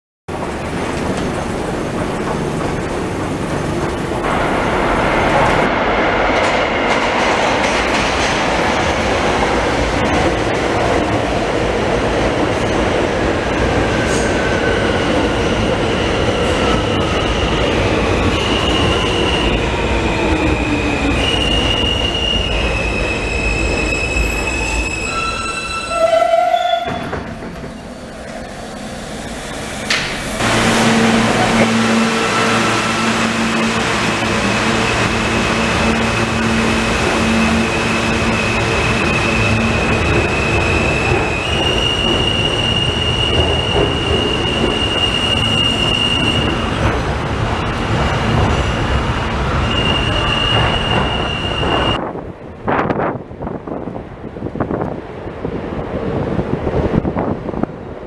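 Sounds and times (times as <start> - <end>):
train wheels rumbling on rails: 0.3 - 58.0.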